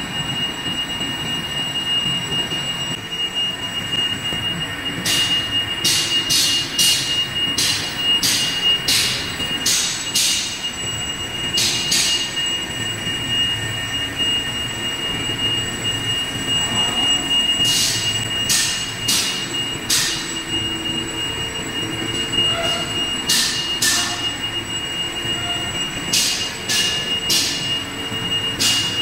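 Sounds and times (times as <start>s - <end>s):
high-pitched whine: 0.0s - 29.0s.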